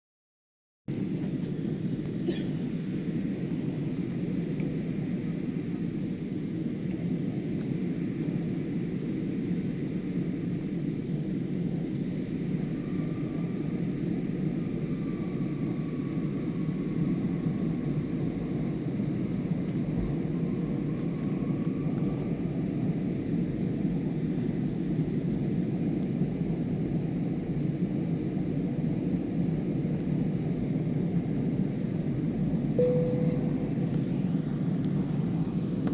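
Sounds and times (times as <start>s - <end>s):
faint steady hum: 0.9s - 35.9s.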